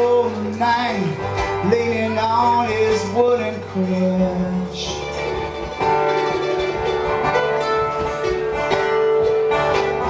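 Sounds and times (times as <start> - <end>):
plucked strings: 0.0 - 10.0.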